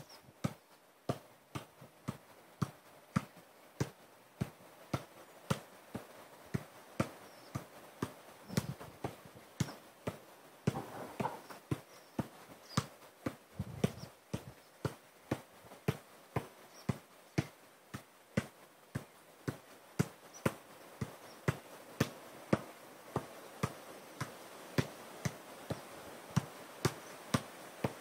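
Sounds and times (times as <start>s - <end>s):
football thudding: 0.4s - 28.0s.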